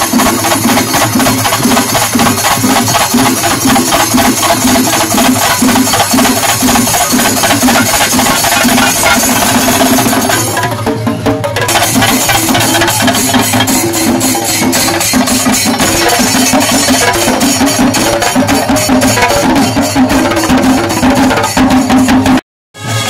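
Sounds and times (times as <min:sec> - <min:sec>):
hand cymbals clashing: 0:00.0 - 0:10.8, 0:11.7 - 0:22.2
drums beaten with sticks: 0:00.0 - 0:23.0.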